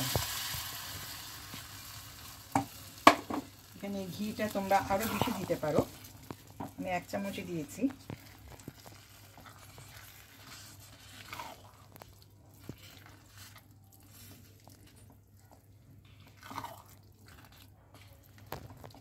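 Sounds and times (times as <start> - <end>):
spatula stirring rice in pan: 0.0 - 19.0.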